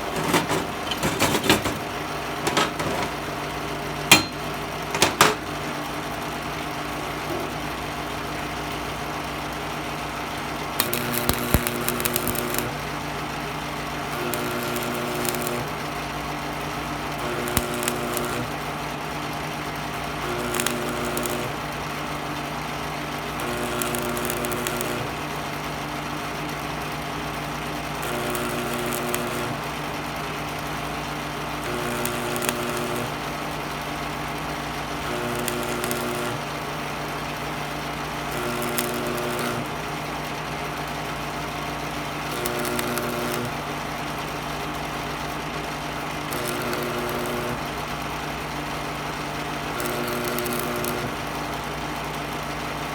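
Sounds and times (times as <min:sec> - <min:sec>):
welding arc crackling and buzzing: 0:00.0 - 0:06.2, 0:06.9 - 0:52.9
welder transformer hum: 0:00.0 - 0:52.9.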